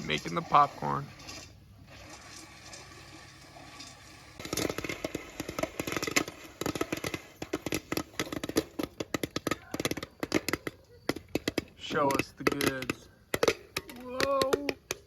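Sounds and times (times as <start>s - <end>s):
popcorn popping: 0.0s - 15.0s.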